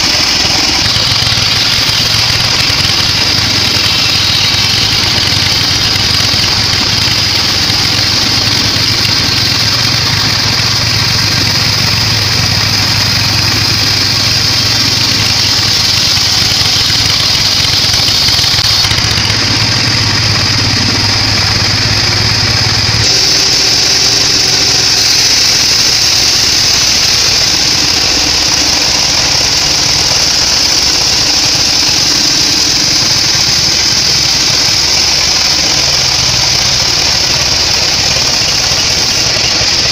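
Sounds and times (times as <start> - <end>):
band sawmill sawing log: 0.0 - 39.9.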